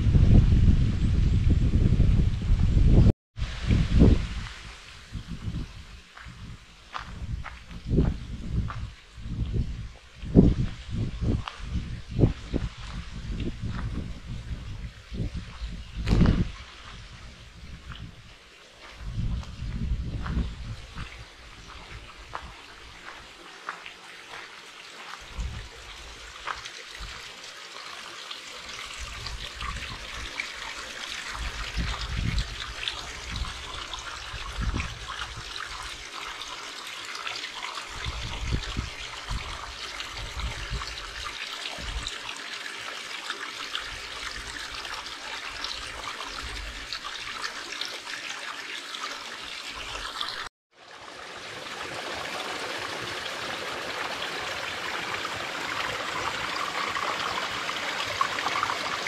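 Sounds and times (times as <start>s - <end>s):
brook trickling over rocks: 3.4s - 59.0s.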